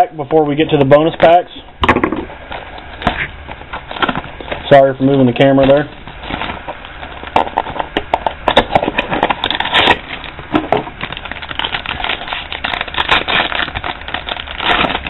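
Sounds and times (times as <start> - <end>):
foil wrapper crinkling and tearing: 2.4 - 15.0.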